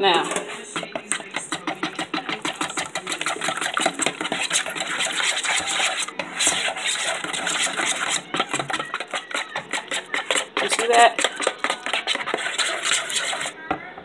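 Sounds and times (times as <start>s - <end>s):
fork beating egg in bowl: 0.0s - 13.6s.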